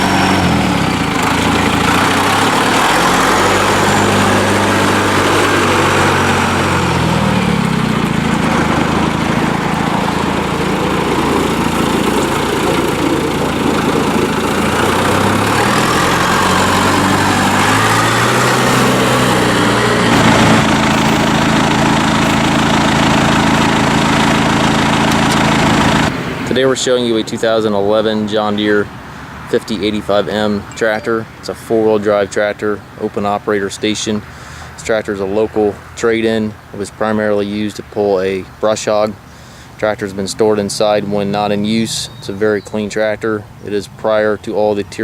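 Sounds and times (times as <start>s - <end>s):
diesel tractor engine revving: 0.0s - 45.0s.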